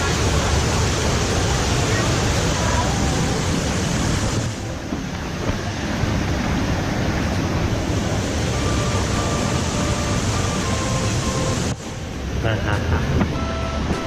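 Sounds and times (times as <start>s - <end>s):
waterfall rushing water: 0.0s - 14.0s.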